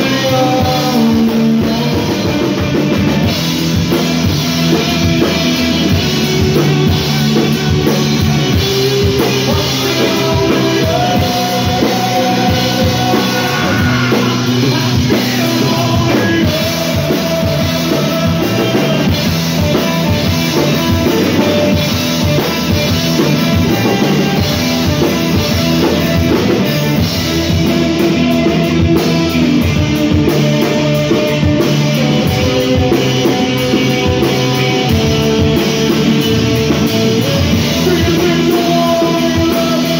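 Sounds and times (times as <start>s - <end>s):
drum kit: 0.0s - 39.9s
electric bass: 0.0s - 39.9s
live rock band playing: 0.0s - 39.9s.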